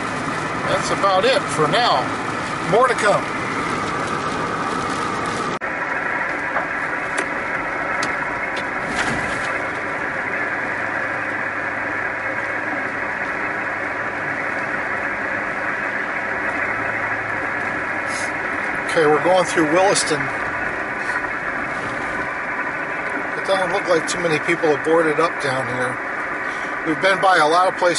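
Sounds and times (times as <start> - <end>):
car road and engine noise: 0.0 - 27.9
low even hum: 0.0 - 27.9.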